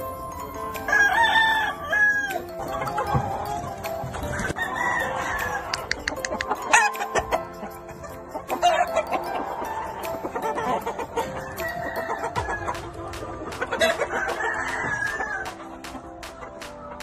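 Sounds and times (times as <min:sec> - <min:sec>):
background music with steady beat: 0:00.0 - 0:17.0
roosters crowing and clucking: 0:00.0 - 0:17.0.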